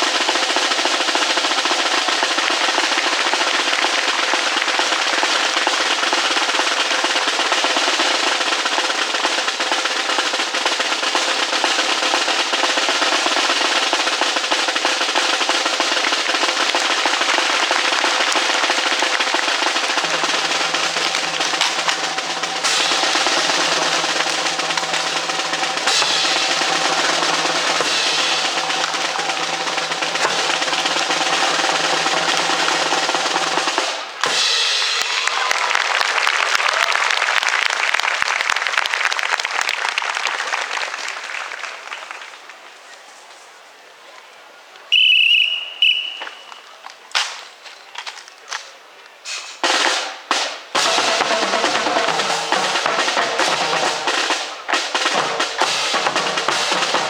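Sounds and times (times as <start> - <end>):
snare drum roll: 0.0 - 40.0, 49.3 - 57.0.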